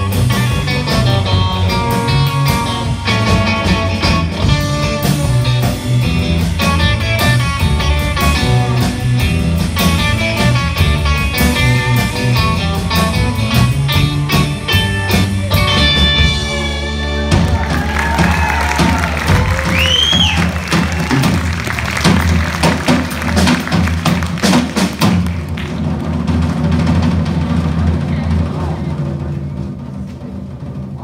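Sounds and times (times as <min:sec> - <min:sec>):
electric guitars: 0:00.0 - 0:25.2
electric bass: 0:00.0 - 0:30.3
drums with steady beat: 0:00.0 - 0:31.0.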